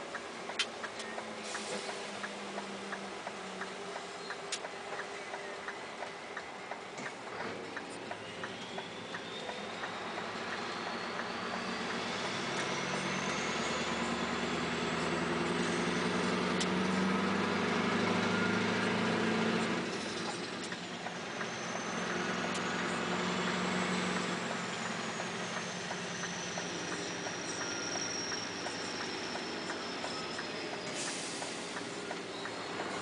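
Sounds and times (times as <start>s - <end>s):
diesel truck engine pulling: 0.0s - 33.0s.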